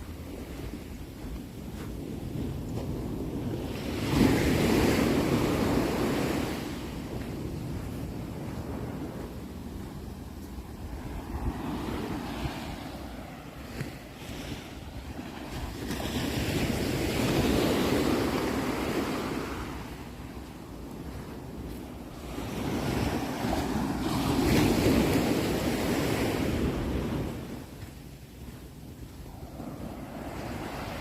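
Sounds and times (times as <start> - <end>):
ocean waves breaking: 0.0 - 31.0
wind rumbling on microphone: 0.0 - 31.0.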